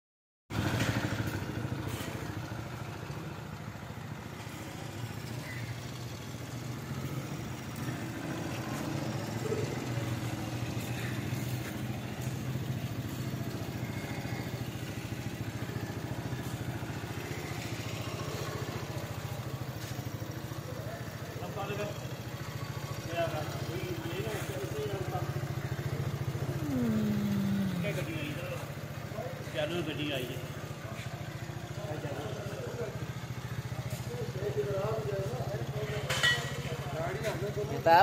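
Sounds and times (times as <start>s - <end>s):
motorcycle engine idling: 0.5s - 38.0s.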